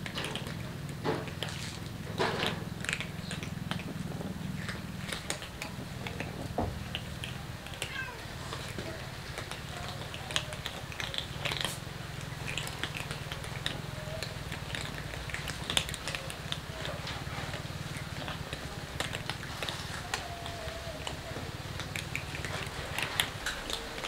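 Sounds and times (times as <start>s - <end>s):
cats crunching dry kibble: 0.0s - 24.0s
steady low hum: 0.0s - 24.0s.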